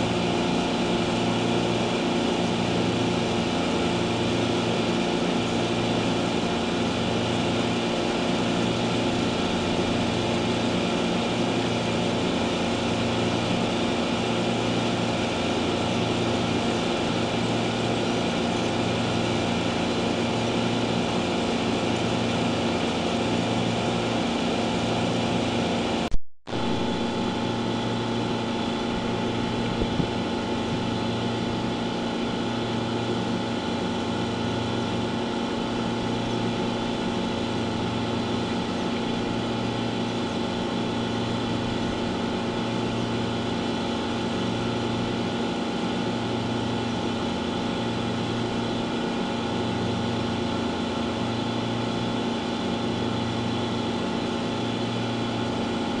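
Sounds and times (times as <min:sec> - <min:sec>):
machinery humming: 0:00.0 - 0:56.0.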